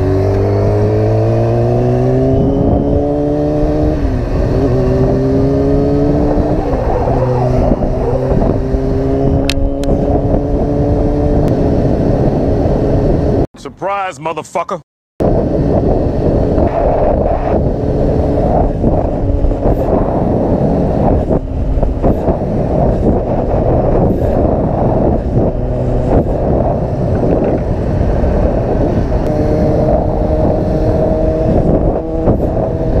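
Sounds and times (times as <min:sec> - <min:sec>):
motorcycle engine droning: 0:00.0 - 0:13.4, 0:15.2 - 0:33.0
wind buffeting microphone: 0:00.0 - 0:13.5, 0:15.2 - 0:33.0.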